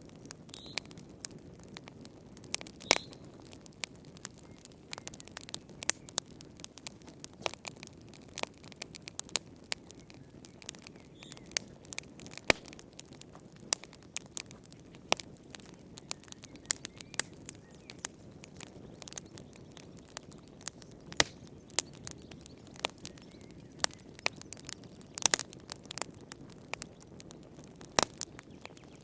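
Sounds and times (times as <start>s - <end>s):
fire pops and snaps: 0.0s - 29.0s
wood fire crackling: 0.0s - 29.0s.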